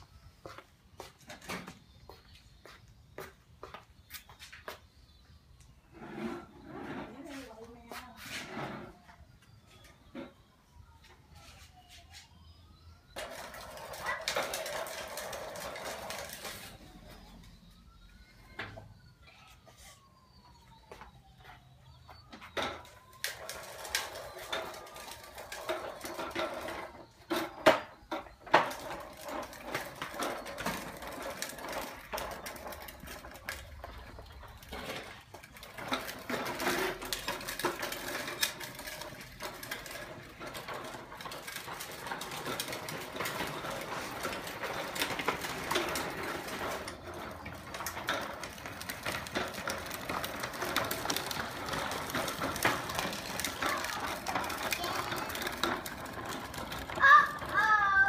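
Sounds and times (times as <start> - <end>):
plastic wheels rolling on concrete: 0.0 - 58.0.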